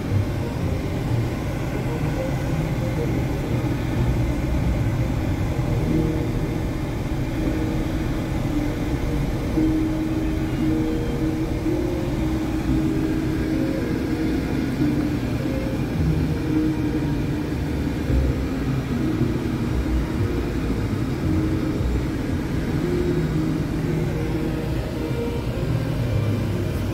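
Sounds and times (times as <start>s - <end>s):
engine low rumble in cab: 0.0s - 26.9s.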